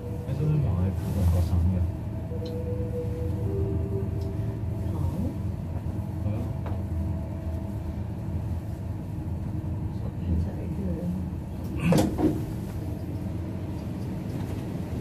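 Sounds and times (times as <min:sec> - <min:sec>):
lift car rumble and hum: 0:00.0 - 0:15.0.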